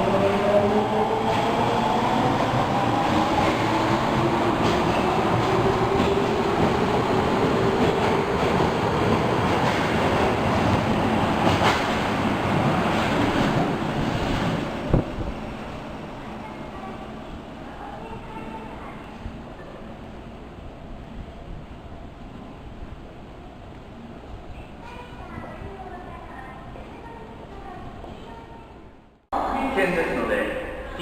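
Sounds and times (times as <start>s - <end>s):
train rolling rumble: 0.0s - 29.5s.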